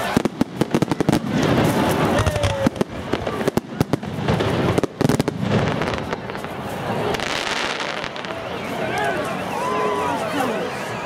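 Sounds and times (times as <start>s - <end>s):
fireworks bangs and crackles: 0.0s - 9.8s.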